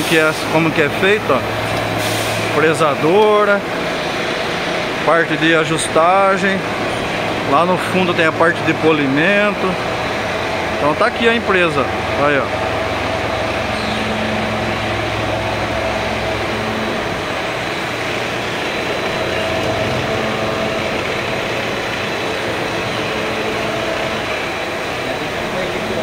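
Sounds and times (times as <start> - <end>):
machines running: 0.0 - 26.0.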